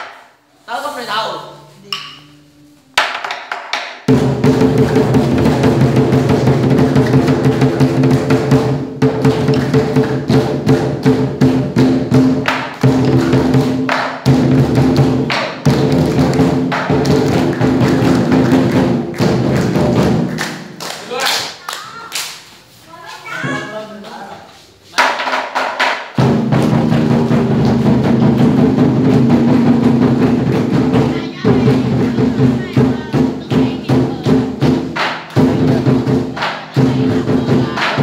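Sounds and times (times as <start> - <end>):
lion dance percussion music: 3.0 - 24.1, 24.9 - 38.0.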